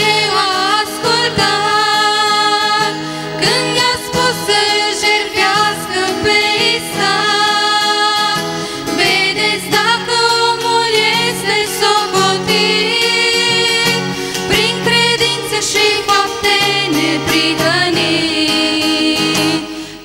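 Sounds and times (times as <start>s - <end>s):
strummed acoustic guitar: 0.0s - 20.0s
women singing a hymn: 0.0s - 20.0s.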